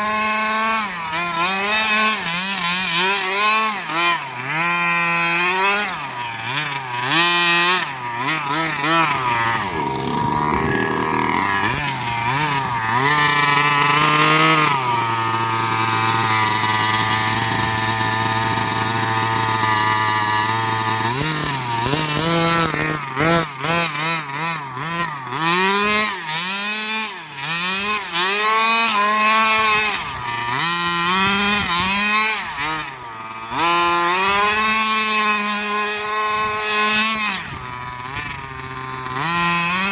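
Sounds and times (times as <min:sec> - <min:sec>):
rc car engine revving: 0:00.0 - 0:39.9.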